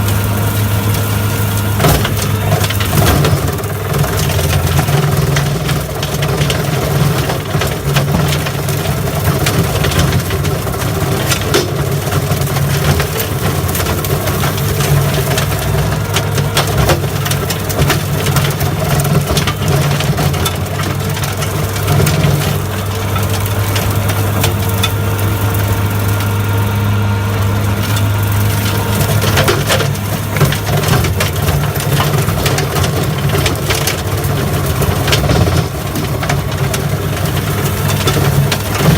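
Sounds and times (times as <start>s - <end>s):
brush cutter mowing brush: 0.0s - 5.9s, 6.7s - 38.9s
crackle of snapping stems: 0.0s - 38.9s
diesel engine running under load: 0.0s - 38.9s.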